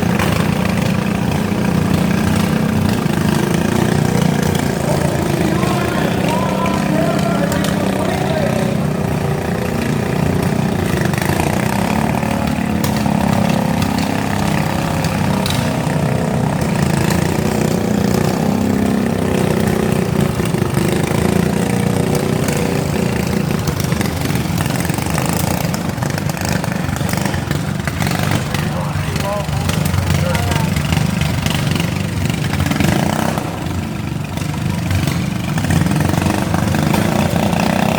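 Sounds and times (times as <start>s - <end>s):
lawn mower engines droning: 0.0s - 37.9s.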